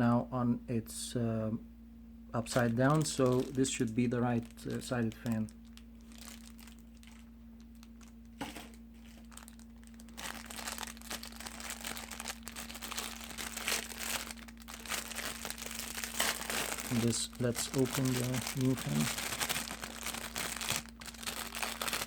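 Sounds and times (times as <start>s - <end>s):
plastic packaging crinkling: 2.4s - 22.0s.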